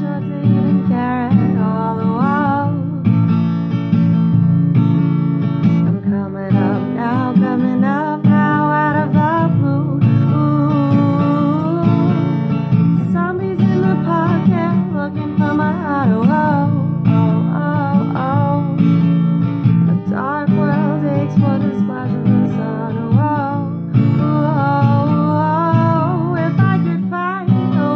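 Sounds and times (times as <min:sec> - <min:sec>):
person singing: 0:00.0 - 0:03.2, 0:05.9 - 0:12.4, 0:13.0 - 0:19.0, 0:19.9 - 0:27.9.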